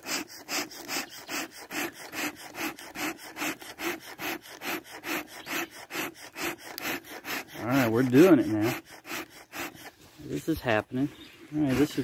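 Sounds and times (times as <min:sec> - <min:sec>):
bellows puffing air: 0:00.0 - 0:10.6.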